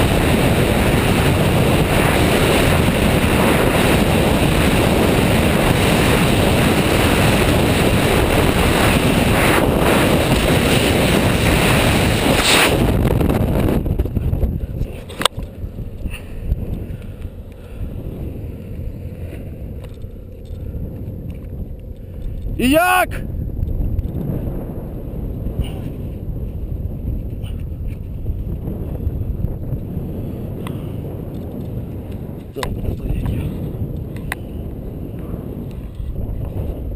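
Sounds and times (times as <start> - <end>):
radial engine low rumble: 0.0 - 36.9
wind rushing over microphone: 0.0 - 36.9.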